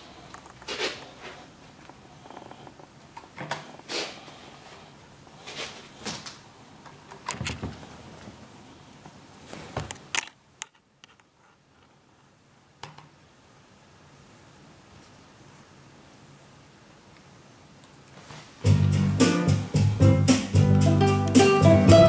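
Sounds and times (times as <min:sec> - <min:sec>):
faint room hiss: 0:00.0 - 0:22.0.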